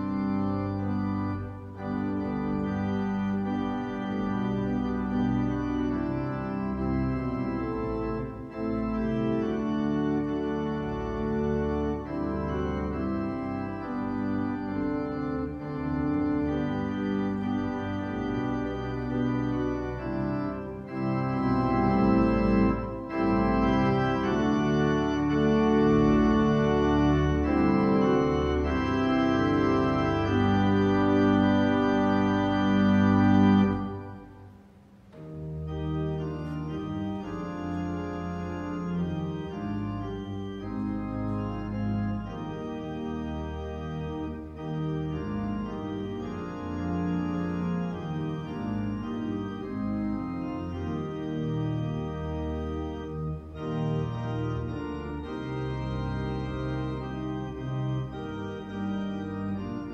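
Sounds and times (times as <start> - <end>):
organ playing slow chords: 0.0 - 59.9.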